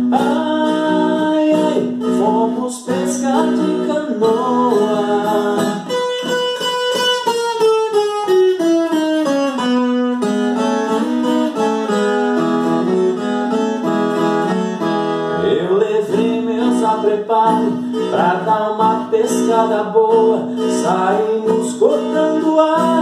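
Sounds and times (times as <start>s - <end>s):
fingerstyle folk guitar: 0.0s - 23.0s.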